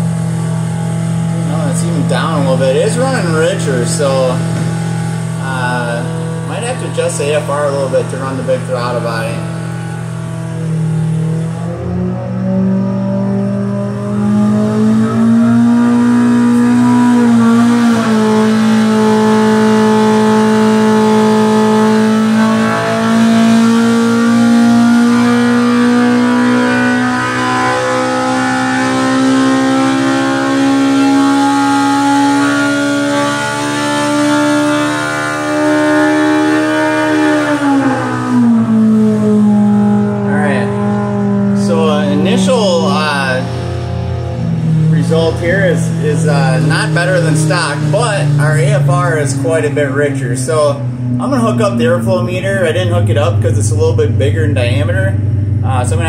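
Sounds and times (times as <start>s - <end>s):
engine revving on a dyno: 0.0s - 56.0s.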